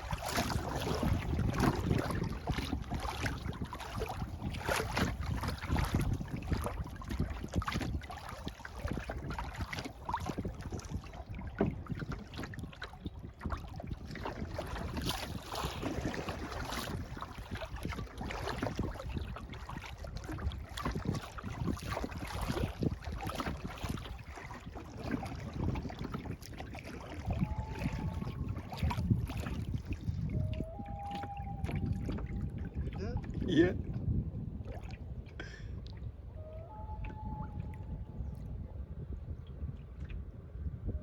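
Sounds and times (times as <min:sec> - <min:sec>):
paddle splashing in water: 0:00.0 - 0:37.9
water lapping at hull: 0:00.0 - 0:41.0
wind rumble on microphone: 0:00.0 - 0:41.0.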